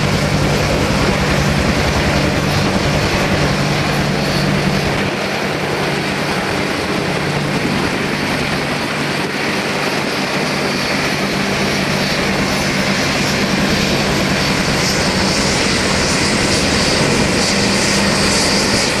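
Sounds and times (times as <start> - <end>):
helicopter rotors droning: 0.0 - 19.0
helicopter turbine whine: 0.0 - 19.0.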